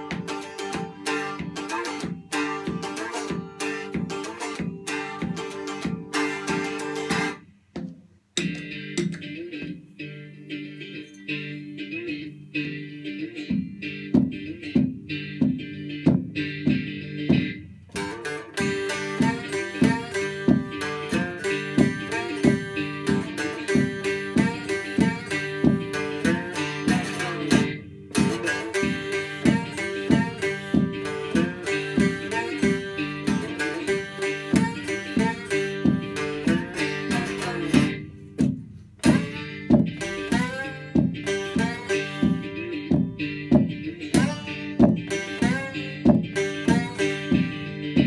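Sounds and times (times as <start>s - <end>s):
guitar plucked picking tune: 0.0s - 48.0s
looped guitar backing track: 0.0s - 48.0s.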